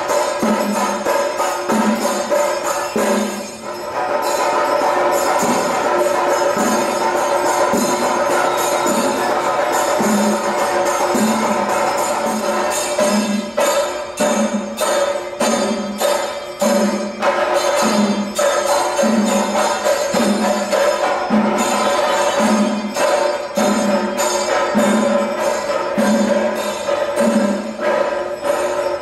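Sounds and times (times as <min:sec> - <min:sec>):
drums playing dense rhythm: 0:00.0 - 0:29.0
hand cymbals clashing: 0:00.0 - 0:29.0.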